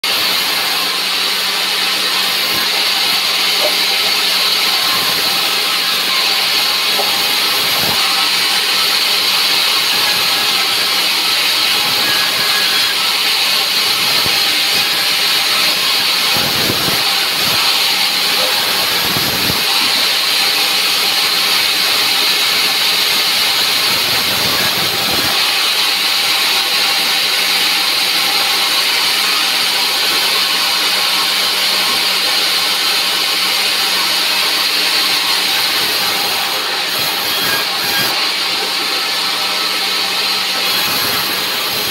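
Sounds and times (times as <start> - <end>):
band saw cutting timber: 0.0 - 41.9.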